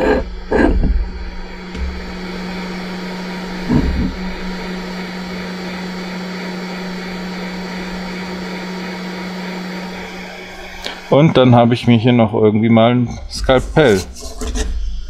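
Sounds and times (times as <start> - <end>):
hot air blower fan whir: 0.0 - 14.4.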